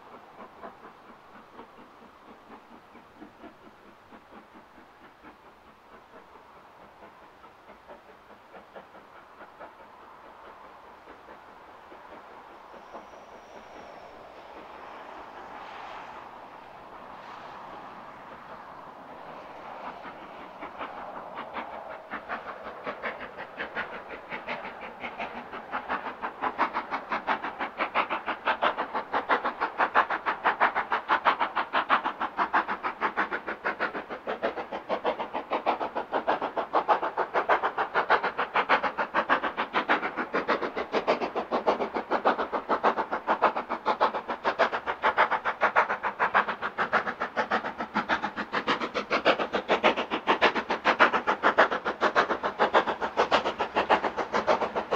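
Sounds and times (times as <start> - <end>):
steam locomotive exhaust beating: 0.0 - 54.9.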